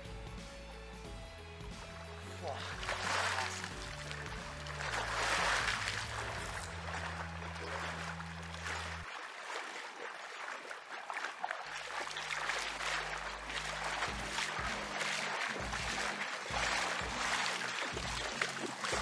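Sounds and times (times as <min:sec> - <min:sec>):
water sloshing while wading: 0:01.6 - 0:19.0
large water splash: 0:02.4 - 0:19.0.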